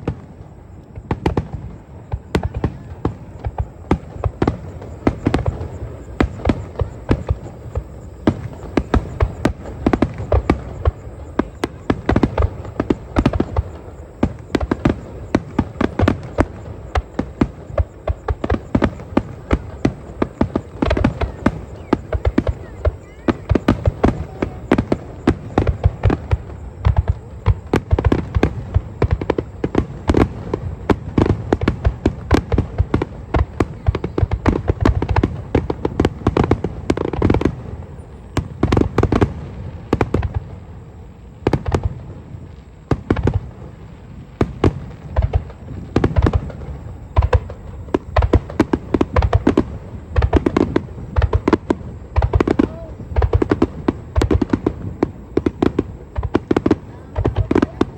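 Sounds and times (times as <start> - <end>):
fireworks bursting: 0.0 - 57.9.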